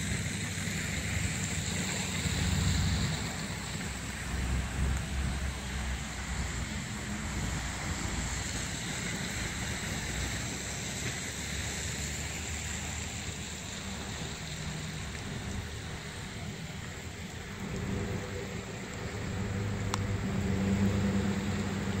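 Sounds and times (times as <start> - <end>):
low steady engine hum: 0.0 - 22.0
steady hiss: 0.0 - 22.0.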